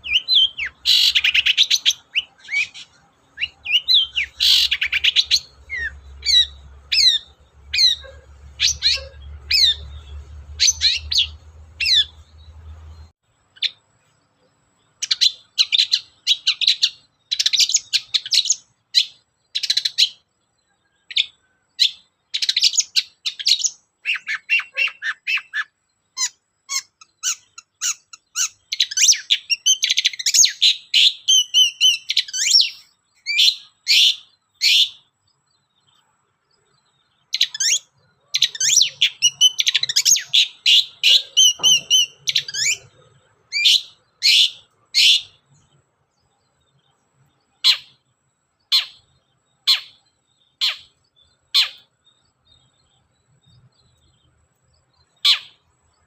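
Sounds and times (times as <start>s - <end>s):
bird singing chattering notes: 0.0s - 13.9s, 20.9s - 36.1s, 36.9s - 56.0s.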